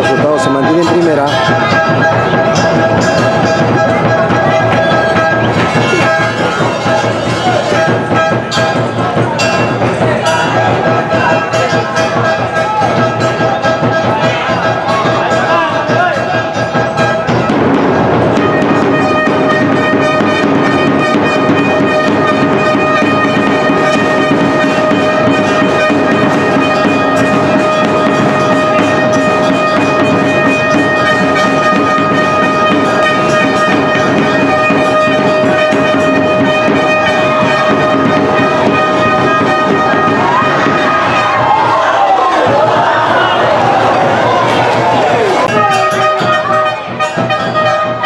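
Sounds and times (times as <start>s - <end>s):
long-held note: 0.0s - 15.7s, 16.6s - 42.2s
drums: 0.0s - 48.0s
trumpets: 0.0s - 48.0s.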